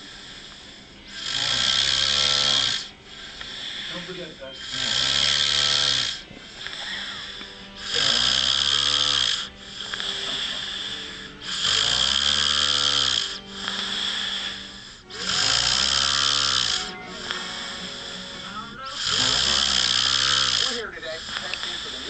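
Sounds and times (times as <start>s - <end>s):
man snoring: 0.0s - 22.0s
quiet breathing: 0.0s - 22.0s.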